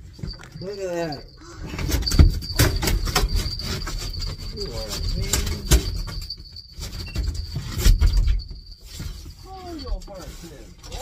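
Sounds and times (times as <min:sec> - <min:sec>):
knocks and thumps: 0:00.0 - 0:09.5.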